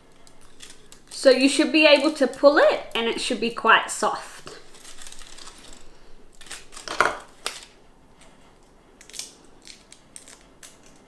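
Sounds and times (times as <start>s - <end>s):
garlic skins crackling: 0.0s - 7.9s, 9.0s - 11.0s
aluminium foil crinkling: 0.0s - 11.0s.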